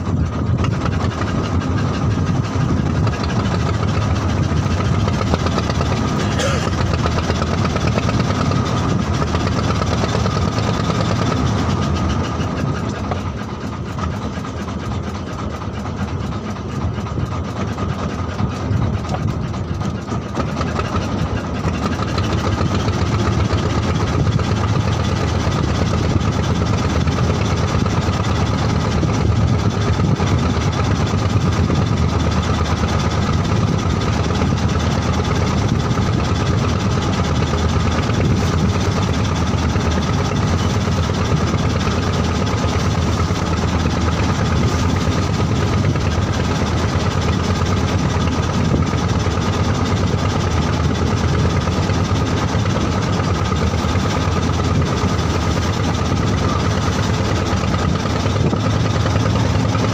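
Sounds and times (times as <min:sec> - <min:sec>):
boat engine rumbling: 0:00.0 - 0:59.9.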